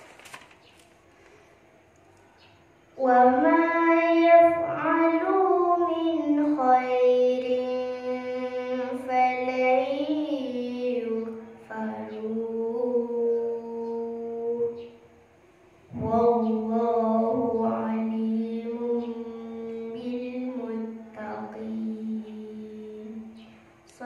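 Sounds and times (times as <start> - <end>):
girl chanting into a microphone: 3.0 - 15.0, 15.9 - 24.0.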